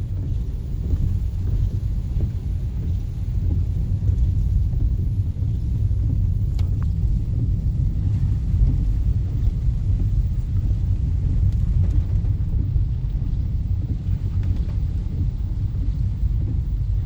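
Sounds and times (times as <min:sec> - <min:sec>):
rain: 0:00.0 - 0:17.0
wind buffeting microphone: 0:00.0 - 0:17.0.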